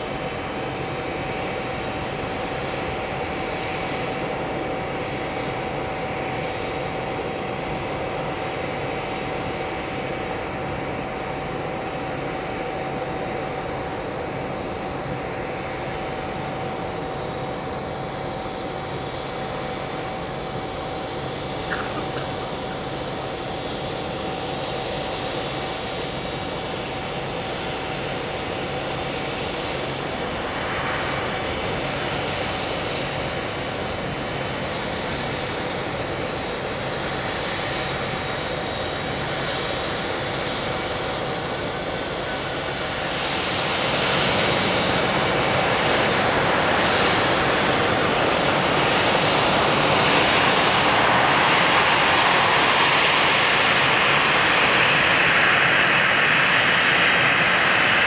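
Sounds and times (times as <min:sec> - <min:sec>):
jet engine whine: 0:00.0 - 0:58.0.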